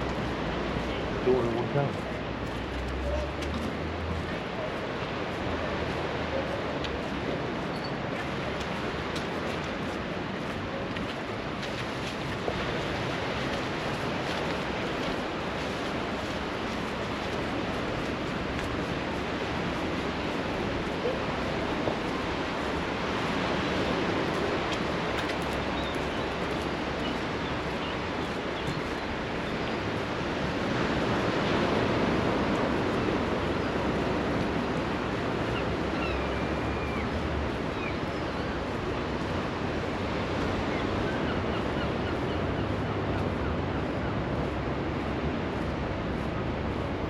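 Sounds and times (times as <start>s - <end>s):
sea surf washing onto beach: 0.0s - 47.0s.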